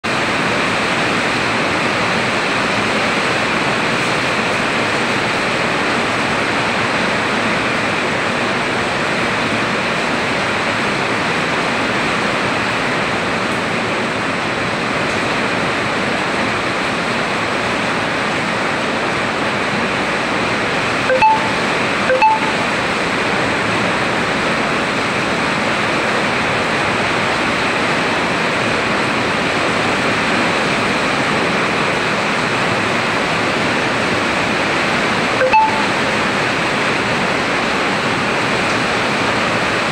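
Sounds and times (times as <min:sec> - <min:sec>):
heavy rain pouring: 0:00.0 - 0:39.9
water running off a roof: 0:00.1 - 0:35.4, 0:36.0 - 0:39.9.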